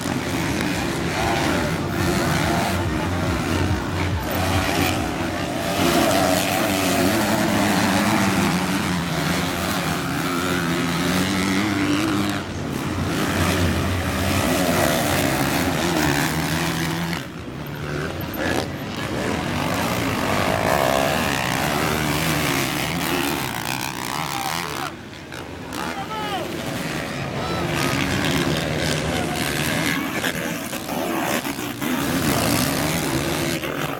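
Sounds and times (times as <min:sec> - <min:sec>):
motorbike engines revving: 0:00.0 - 0:33.9.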